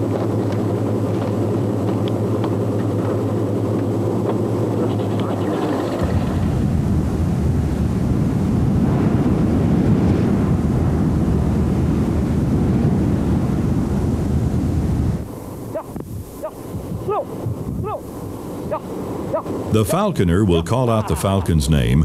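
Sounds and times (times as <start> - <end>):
loud rumbling noise: 0.0 - 22.0.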